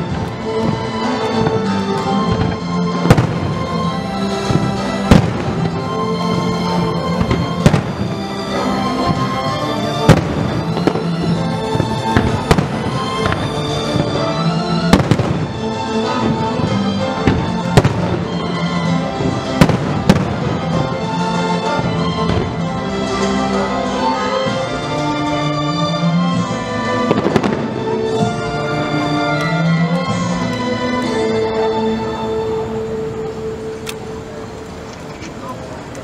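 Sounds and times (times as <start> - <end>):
music: 0.0 - 36.0.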